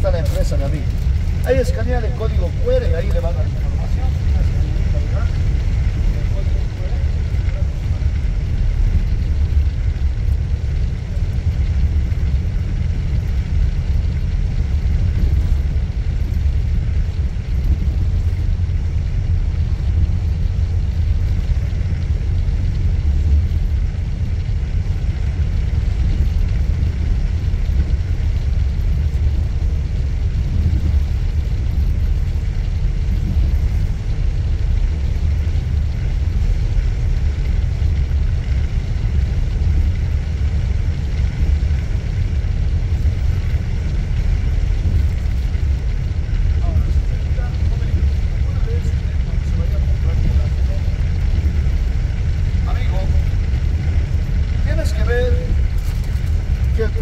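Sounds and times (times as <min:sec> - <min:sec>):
bus engine and road noise: 0:00.0 - 0:57.0.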